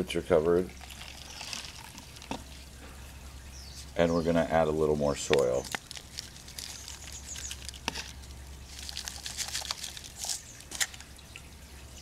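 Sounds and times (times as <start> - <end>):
soil pattering and rustling: 0.6 - 4.1, 4.8 - 11.5.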